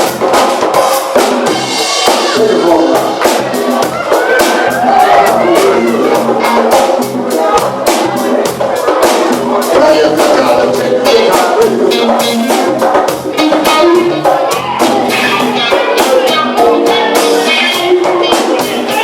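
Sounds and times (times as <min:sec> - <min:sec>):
drum kit beat: 0:00.0 - 0:19.0
live funk band playing: 0:00.0 - 0:19.0.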